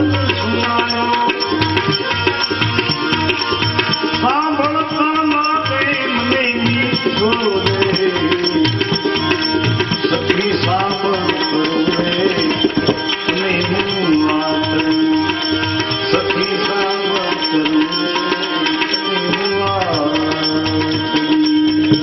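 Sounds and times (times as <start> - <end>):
tabla beat: 0.0 - 22.0.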